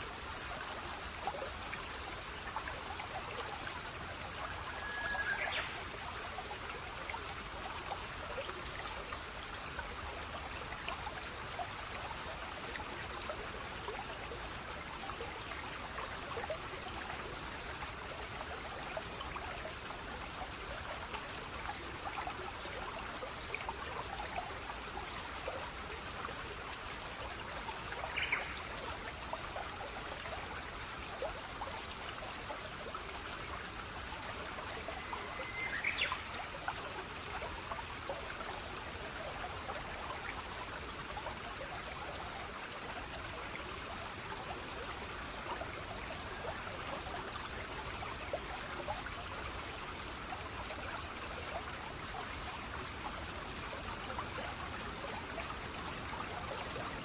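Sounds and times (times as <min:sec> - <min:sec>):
water trickling in a stream: 0:00.0 - 0:57.0.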